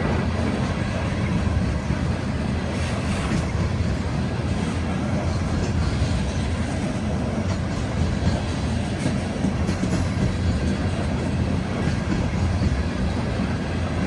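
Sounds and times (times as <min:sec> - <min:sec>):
diesel locomotives rumbling: 0:00.0 - 0:14.0.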